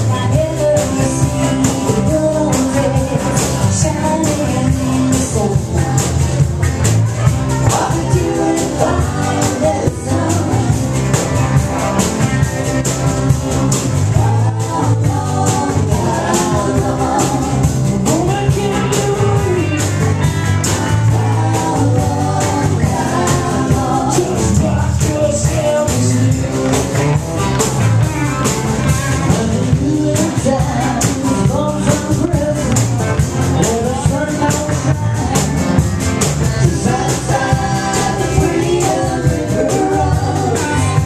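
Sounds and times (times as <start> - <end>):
person singing: 0.0 - 6.5, 7.2 - 11.0, 14.1 - 20.0, 21.0 - 26.8, 29.0 - 35.8, 36.4 - 41.0
live rock band: 0.0 - 41.0.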